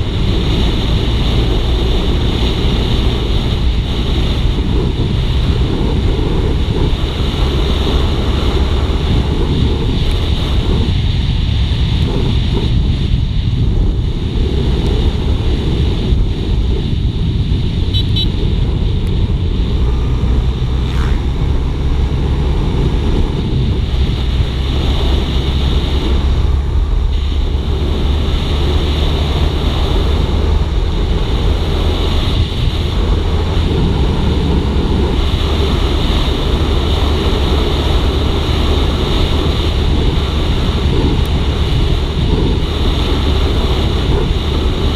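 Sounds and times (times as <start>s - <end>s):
motorcycle engine cruising: 0.0s - 44.9s
wind noise on microphone: 0.0s - 44.9s.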